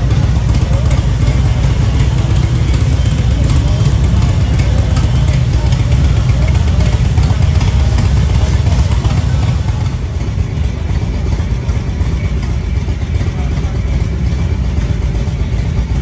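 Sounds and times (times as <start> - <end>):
motorcycle engines rumbling: 0.0 - 16.0.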